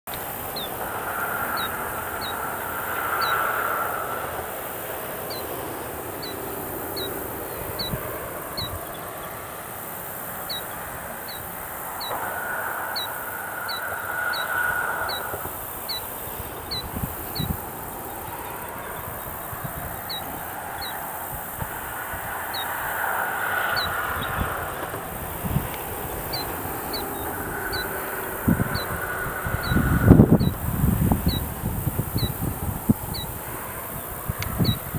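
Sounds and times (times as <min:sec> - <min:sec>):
rushing background noise: 0:00.1 - 0:34.9.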